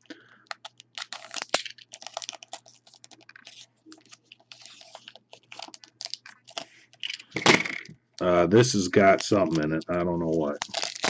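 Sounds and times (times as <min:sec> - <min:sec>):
wrappers crinkling and rustling: 0:00.4 - 0:07.4, 0:08.9 - 0:11.0
cards being handled: 0:00.5 - 0:07.9, 0:08.9 - 0:11.0.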